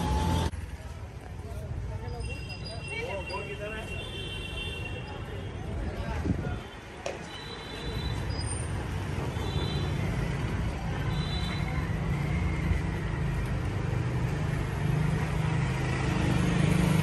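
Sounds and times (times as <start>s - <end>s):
distant street background noise: 0.0s - 17.0s.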